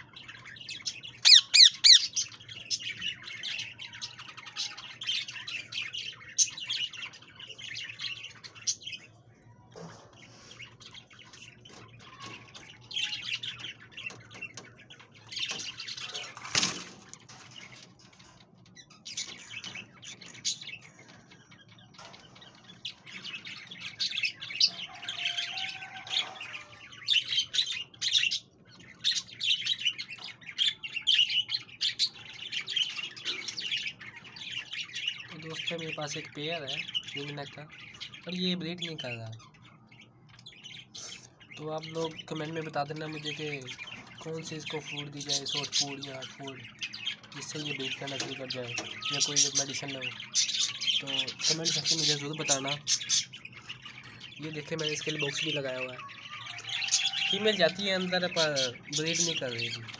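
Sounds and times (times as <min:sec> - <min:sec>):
parakeets chattering and squawking: 0:00.0 - 0:59.9.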